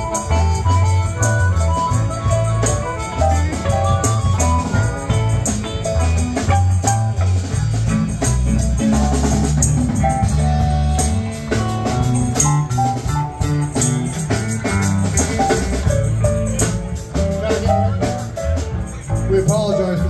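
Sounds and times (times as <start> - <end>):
drum beat: 0.0 - 20.0
strummed and picked guitar: 0.0 - 20.0.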